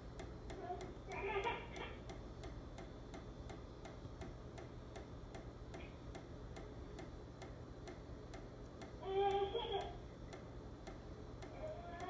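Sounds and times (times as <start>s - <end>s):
steady ticking from ductwork: 0.0s - 12.0s.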